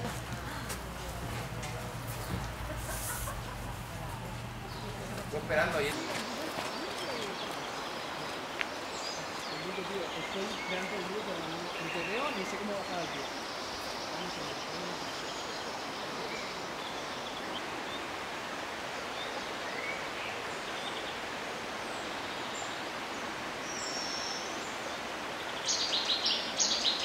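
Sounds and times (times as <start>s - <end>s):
steady outdoor hiss: 0.0s - 27.0s.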